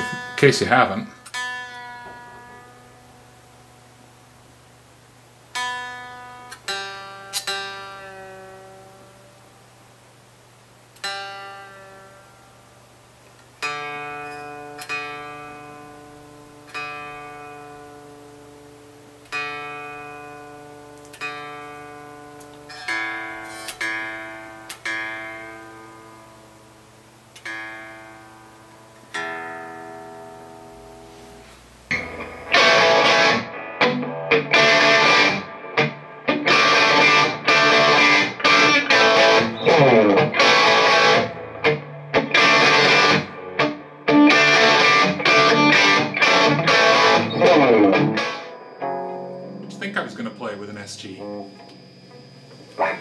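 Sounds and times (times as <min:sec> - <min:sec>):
electric guitar being tuned: 0:00.0 - 0:53.0
electric guitar chords and riffs: 0:00.0 - 0:53.0.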